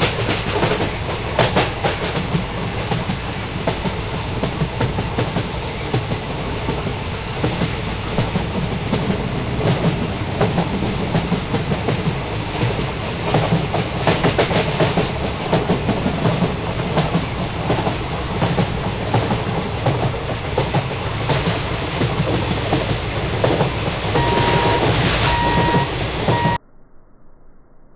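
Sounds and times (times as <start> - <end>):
train wheels clickety-clack: 0.0 - 26.6.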